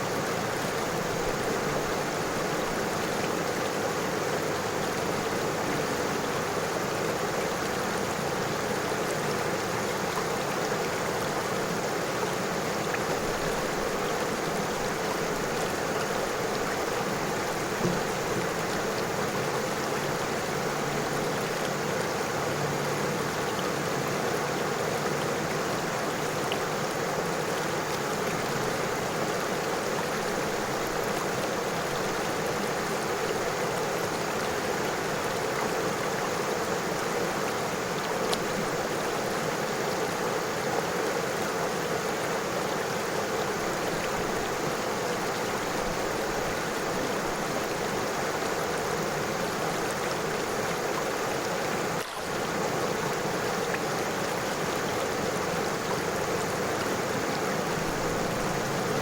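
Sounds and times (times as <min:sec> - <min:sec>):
faint water splashes: 0:00.0 - 0:59.0
river water flowing over stones: 0:00.0 - 0:59.0.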